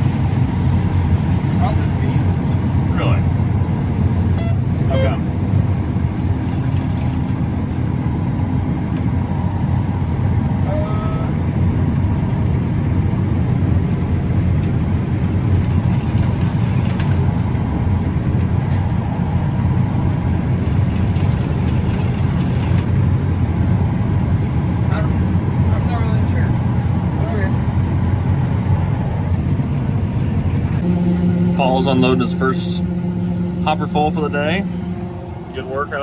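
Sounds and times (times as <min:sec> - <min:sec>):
combine harvester running: 0:00.0 - 0:36.0.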